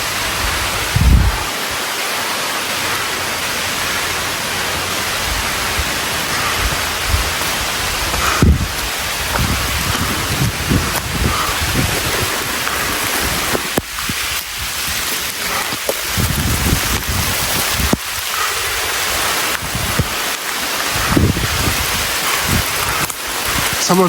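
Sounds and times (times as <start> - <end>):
rain falling: 0.0 - 24.0
wind gusts on microphone: 0.0 - 24.0.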